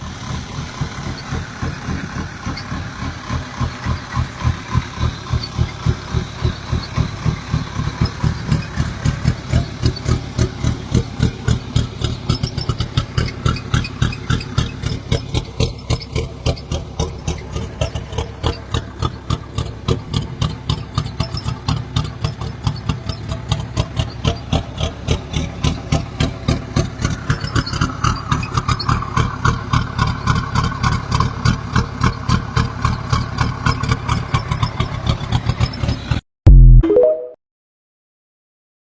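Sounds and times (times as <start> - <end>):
diesel engine idling: 0.0 - 34.2.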